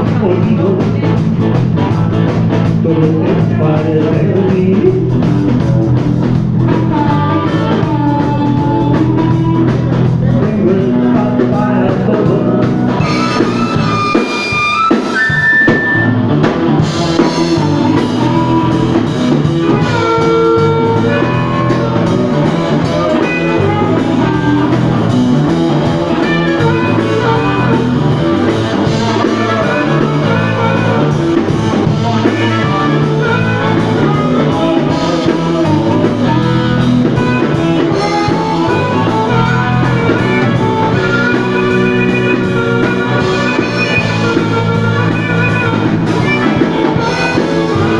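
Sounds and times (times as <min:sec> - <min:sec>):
drum kit beat: 0:00.0 - 0:47.9
electric guitar playing: 0:00.0 - 0:47.9.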